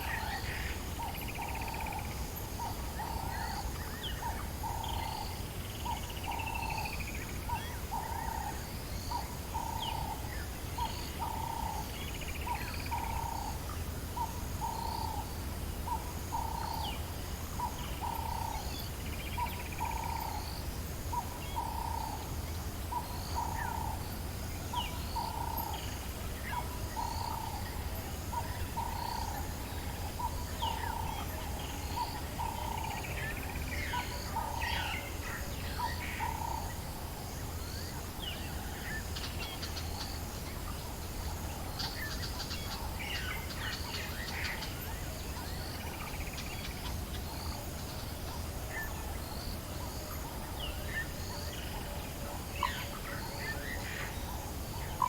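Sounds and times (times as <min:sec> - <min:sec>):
faint high insect chorus: 0:00.0 - 0:55.0.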